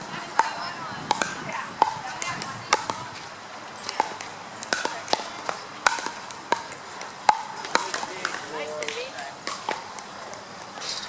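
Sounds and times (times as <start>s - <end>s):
paddles hitting plastic ball: 0.3s - 10.4s.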